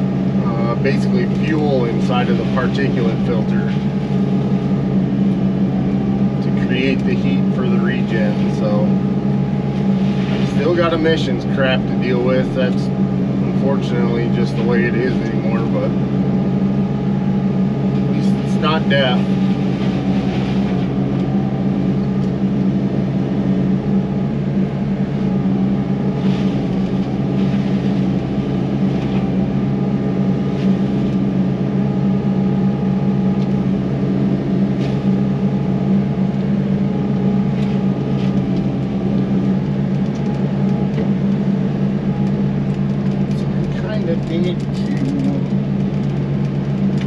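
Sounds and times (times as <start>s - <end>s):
excavator diesel engine under load: 0.0s - 47.0s.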